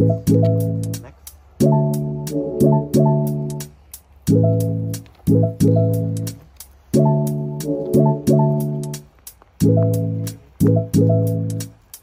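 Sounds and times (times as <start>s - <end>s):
struck chords: 0.0s - 11.8s.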